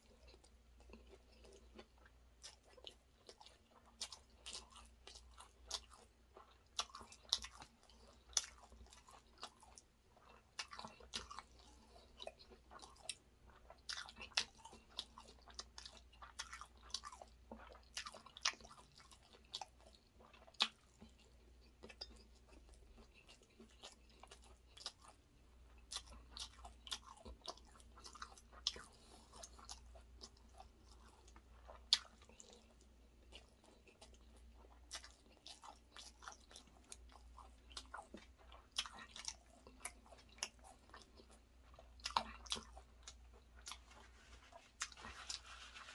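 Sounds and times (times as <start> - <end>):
close chewing of rice: 0.0 - 45.9.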